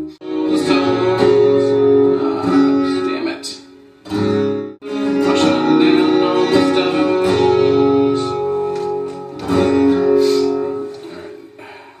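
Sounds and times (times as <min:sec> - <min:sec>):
guitar strummed chords: 0:00.0 - 0:11.6.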